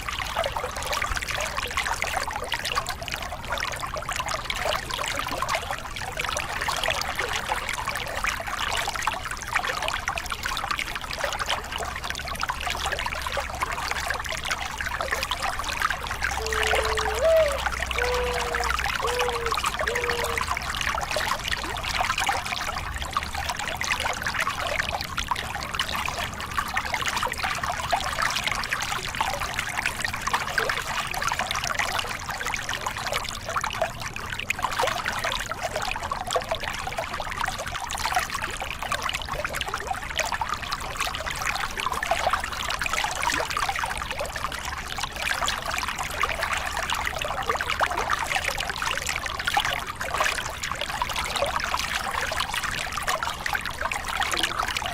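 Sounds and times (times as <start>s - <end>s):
water splashing over rocks: 0.0s - 54.9s.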